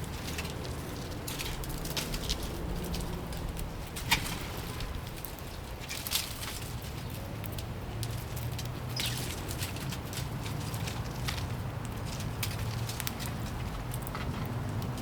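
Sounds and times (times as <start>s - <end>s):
light ticks and pattering: 0.0s - 15.0s.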